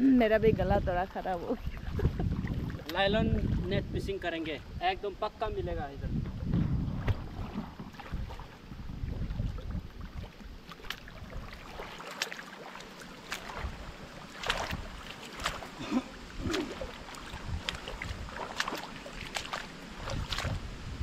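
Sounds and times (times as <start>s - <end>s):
water sloshing around legs: 0.9s - 3.8s, 6.2s - 21.0s
small splashes: 1.2s - 3.8s, 6.3s - 21.0s.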